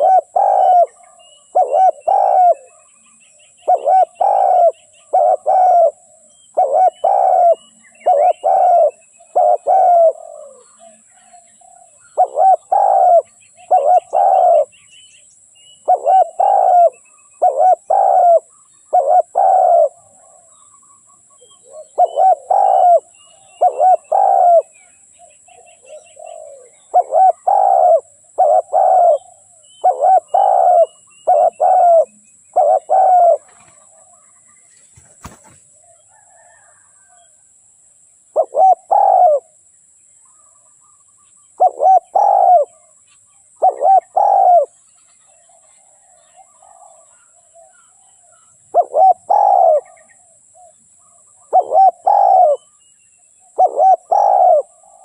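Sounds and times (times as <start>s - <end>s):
dove cooing: 0.0s - 14.7s, 15.8s - 20.6s, 21.3s - 34.4s, 35.0s - 37.3s, 38.3s - 39.6s, 41.6s - 42.9s, 43.6s - 52.8s, 53.5s - 55.0s
small birds chirping: 0.0s - 37.4s, 38.2s - 55.0s
steady high-pitched hiss: 0.0s - 55.0s.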